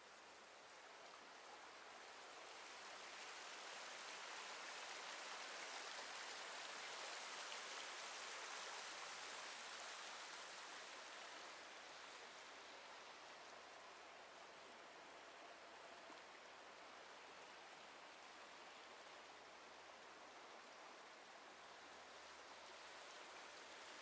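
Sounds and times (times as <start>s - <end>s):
river running over rocks: 0.1s - 24.0s.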